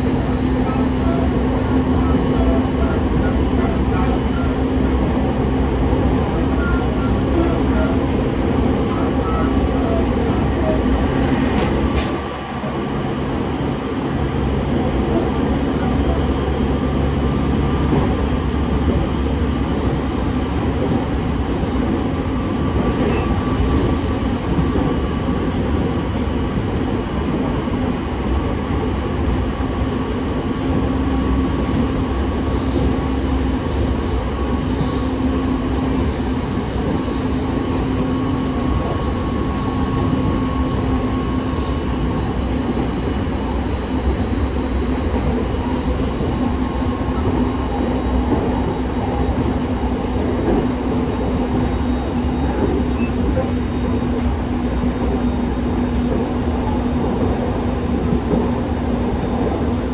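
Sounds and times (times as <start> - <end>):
constant train hum: 0.0 - 59.9
train wheels rumbling on rails: 0.0 - 59.9.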